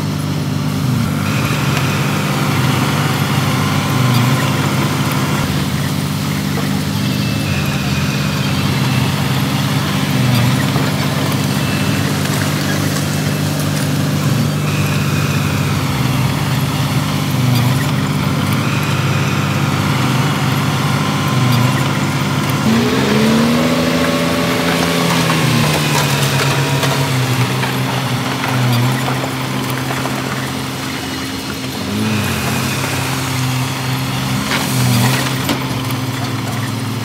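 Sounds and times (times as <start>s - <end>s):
diesel engine running and revving: 0.0s - 37.0s.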